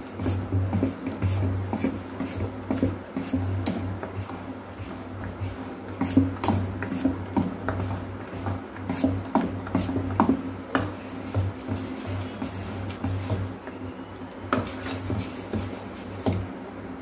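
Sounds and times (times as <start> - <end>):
spoon stirring batter in steel bowl: 0.0 - 16.6.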